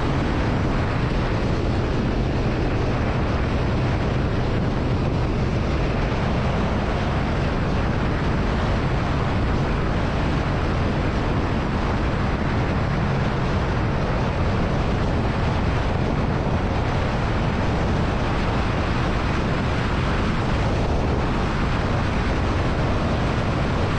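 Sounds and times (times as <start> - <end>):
motorcycle engine humming: 0.0 - 23.9
wind noise on microphone: 0.0 - 23.9.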